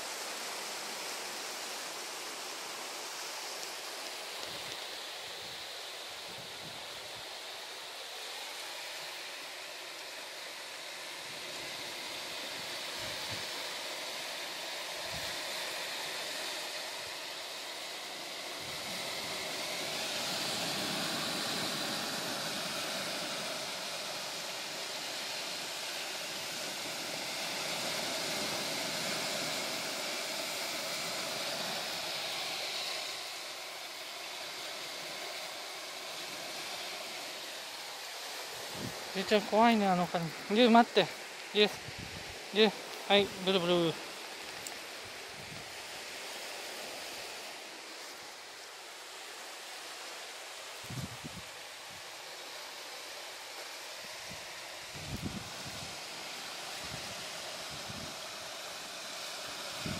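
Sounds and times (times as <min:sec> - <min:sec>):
rushing seashore noise: 0:00.0 - 0:59.9.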